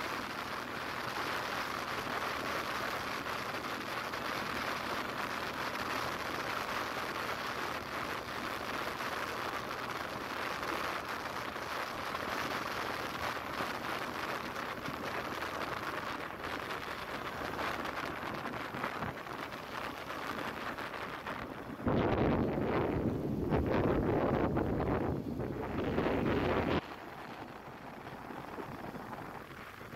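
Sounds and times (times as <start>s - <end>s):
wind on the microphone: 0.0s - 29.9s.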